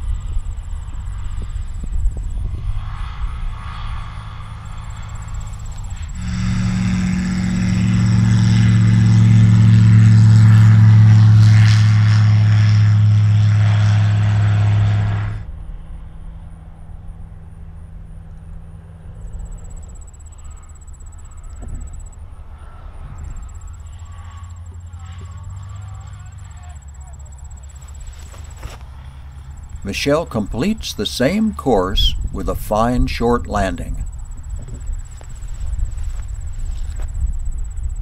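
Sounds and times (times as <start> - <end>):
light plane engine droning: 0.0 - 38.0.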